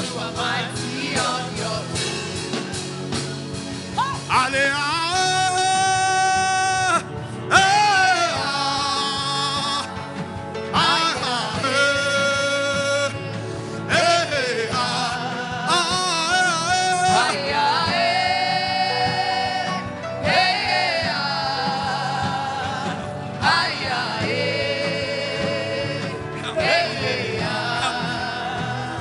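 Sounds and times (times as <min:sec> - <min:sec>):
gospel backing music: 0:00.0 - 0:29.0.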